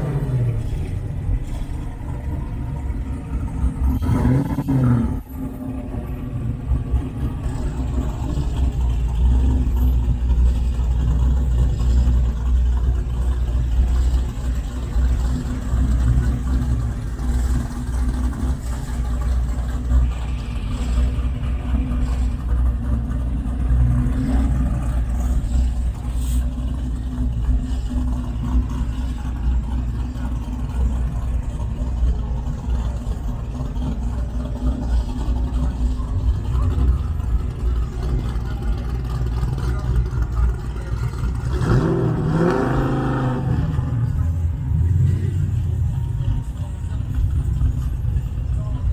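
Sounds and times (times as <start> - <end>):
car engines rumbling: 0.0 - 48.9.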